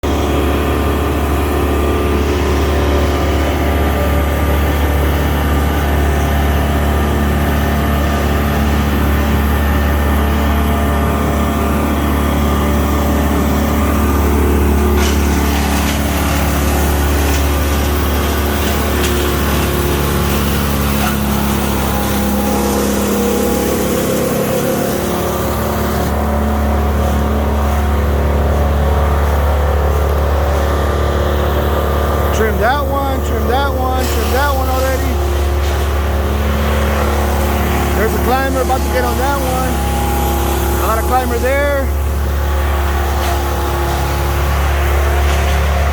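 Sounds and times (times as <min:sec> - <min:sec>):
large engine humming: 0:00.0 - 0:45.9.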